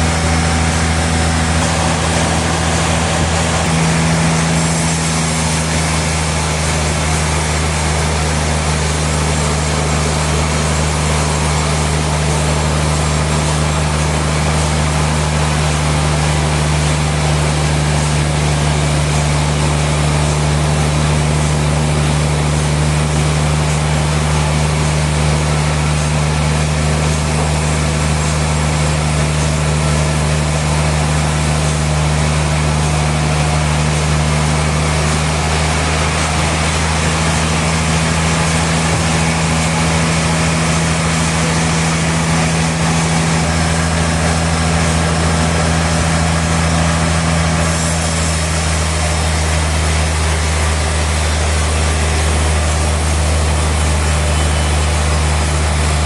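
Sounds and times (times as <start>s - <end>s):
motor hum: 0.0s - 56.0s.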